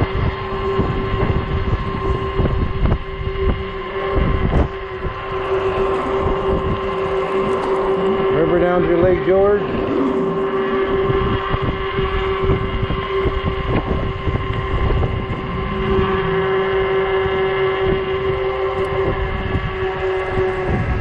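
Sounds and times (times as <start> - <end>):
electric motor whining: 0.0 - 21.0
wind rumbling on microphone: 0.0 - 21.0.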